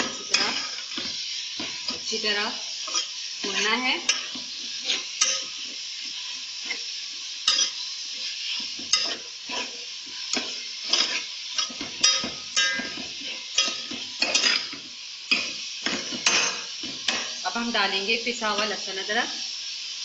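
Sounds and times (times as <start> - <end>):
metal spatula scraping a pot: 0.0 - 2.1, 2.8 - 17.4
meat sizzling in hot oil: 0.0 - 20.0.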